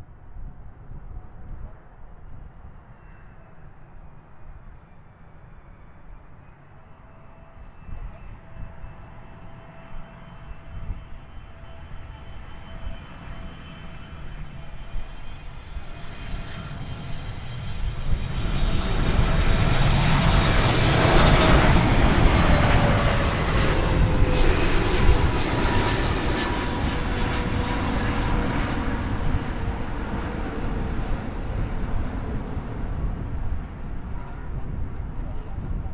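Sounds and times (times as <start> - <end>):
airliner engine noise: 0.0 - 35.9
jet engine whine: 0.0 - 35.9.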